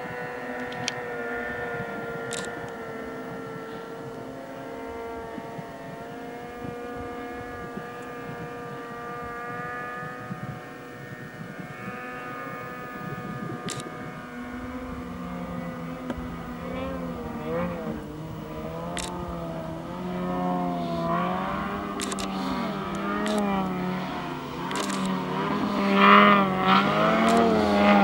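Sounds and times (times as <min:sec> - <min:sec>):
snowmobile engine droning: 0:00.0 - 0:28.0.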